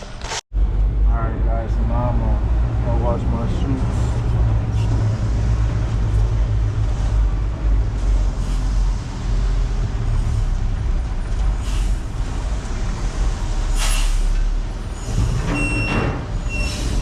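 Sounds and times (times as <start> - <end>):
diesel engine low rumble: 0.0 - 17.0.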